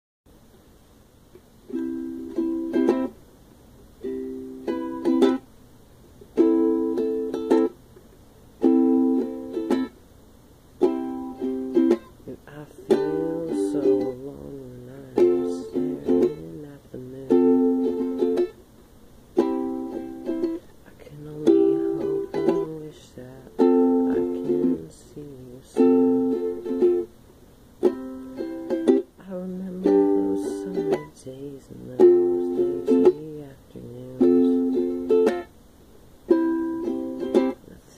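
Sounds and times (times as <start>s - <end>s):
ukulele strumming chords: 1.3s - 10.0s, 10.8s - 37.9s.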